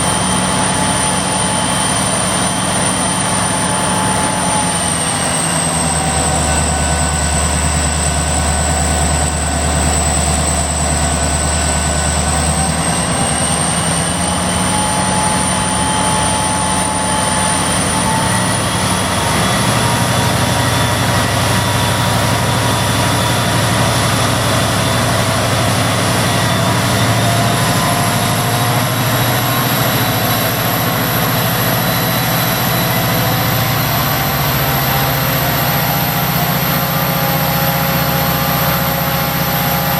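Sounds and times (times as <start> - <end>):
diesel locomotive engine running: 0.0 - 39.9
turbocharger whine: 0.0 - 39.9.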